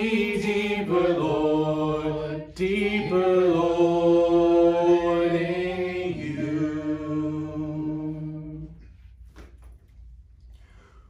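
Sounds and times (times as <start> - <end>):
unaccompanied singers holding notes: 0.0 - 9.0.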